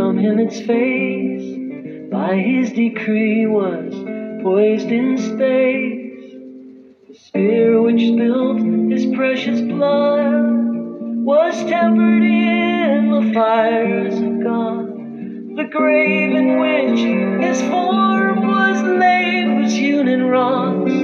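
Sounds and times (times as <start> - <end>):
man singing: 0.0 - 6.2, 7.2 - 21.0
acoustic guitar: 0.0 - 21.0.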